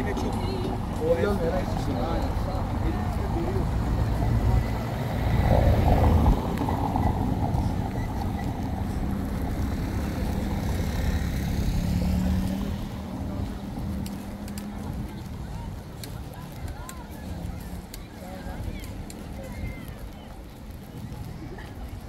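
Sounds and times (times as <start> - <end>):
engine rumbling and droning: 0.0 - 22.0.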